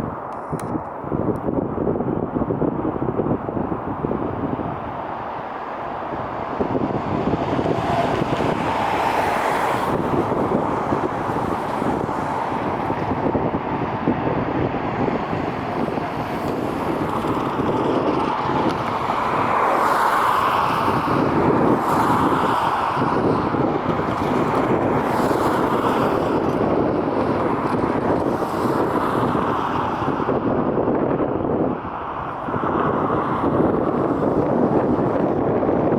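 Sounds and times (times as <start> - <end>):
engine rumble: 0.0 - 28.9
wind buffeting microphone: 0.0 - 35.9.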